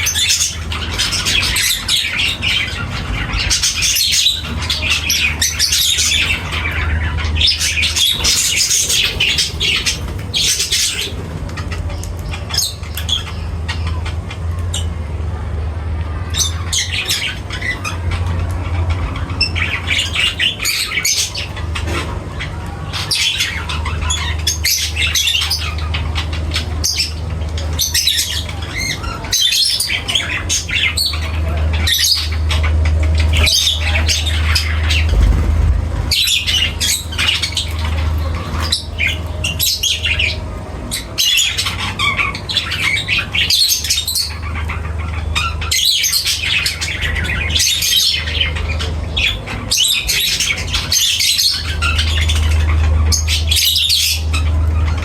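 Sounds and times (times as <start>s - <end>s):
parrots chattering and squawking: 0.0s - 55.0s
steady low hum: 0.0s - 55.0s.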